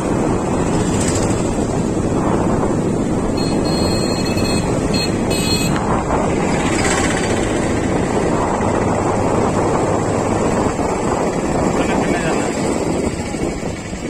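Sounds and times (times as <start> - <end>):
road and engine noise: 0.0 - 14.0
wind buffeting microphone: 0.0 - 14.0.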